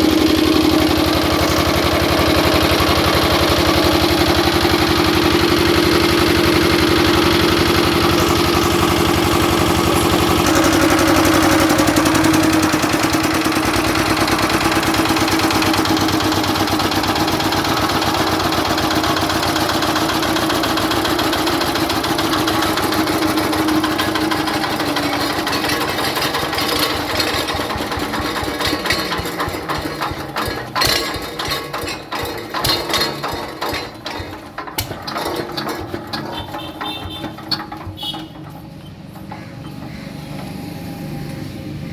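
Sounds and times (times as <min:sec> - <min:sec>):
generator engine running: 0:00.0 - 0:41.9.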